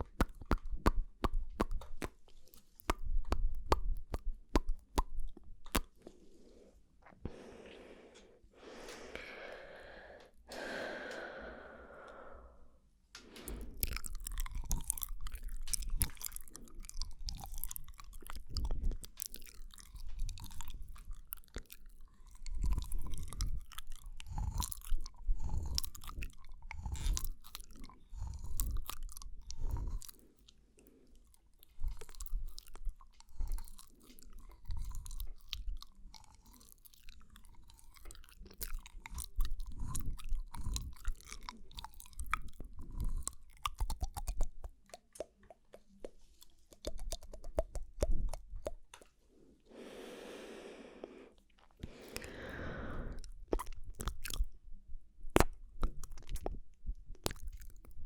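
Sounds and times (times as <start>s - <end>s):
wet mouth clicks and smacks: 0.0s - 6.2s, 13.4s - 49.2s, 51.4s - 58.0s
breathy sounds: 5.7s - 44.8s, 45.8s - 54.5s.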